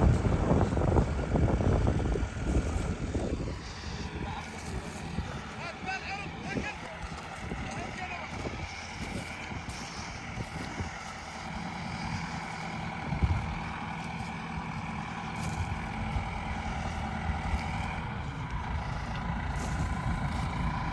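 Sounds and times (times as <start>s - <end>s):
tractor and harvester running: 0.0s - 20.9s.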